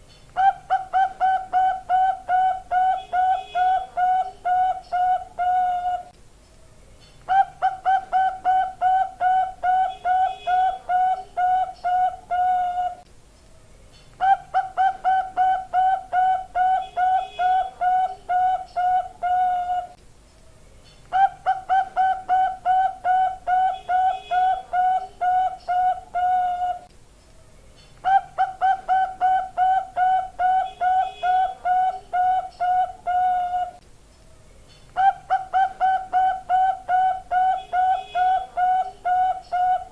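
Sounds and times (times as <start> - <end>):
dove cooing: 0.4 - 6.1, 7.3 - 13.0, 14.2 - 20.0, 21.1 - 26.9, 28.0 - 33.8, 35.0 - 39.9.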